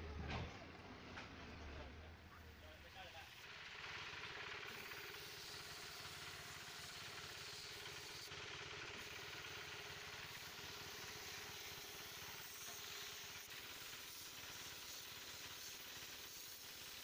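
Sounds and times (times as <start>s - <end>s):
faint motor hum with hiss: 2.2s - 8.4s, 9.0s - 17.0s.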